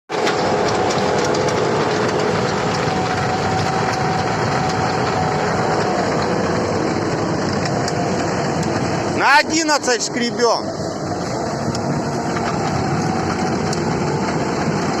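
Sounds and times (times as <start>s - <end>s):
loader engine drone: 0.1s - 15.0s
milling drum grinding: 0.1s - 15.0s.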